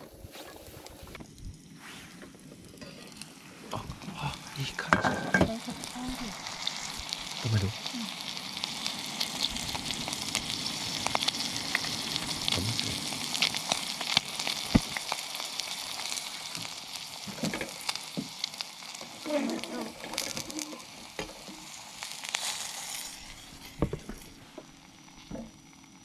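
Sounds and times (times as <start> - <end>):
ham and eggs sizzling in a pot: 0.0 - 26.0.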